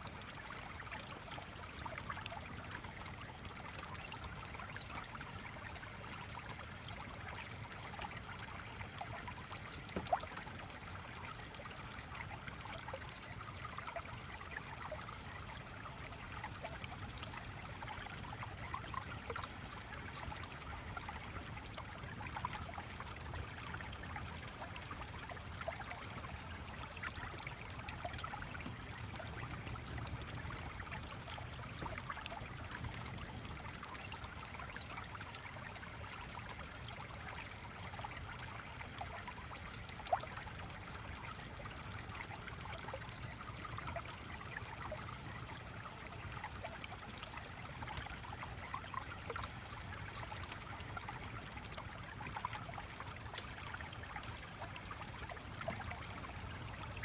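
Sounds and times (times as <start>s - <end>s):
small stream trickling: 0.0s - 57.0s.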